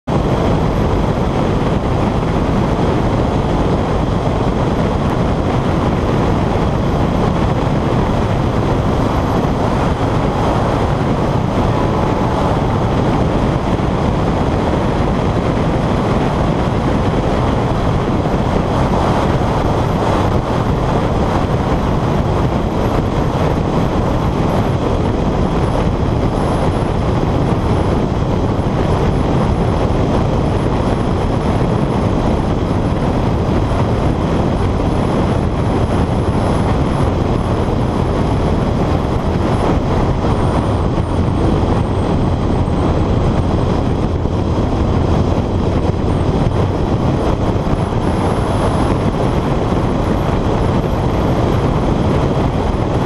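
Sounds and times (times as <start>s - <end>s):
car driving at speed: 0.0s - 53.0s.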